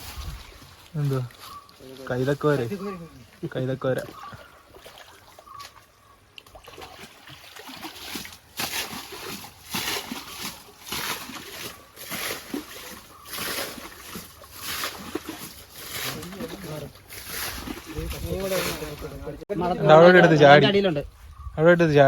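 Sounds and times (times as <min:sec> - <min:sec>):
splashing in muddy water: 0:00.0 - 0:19.4.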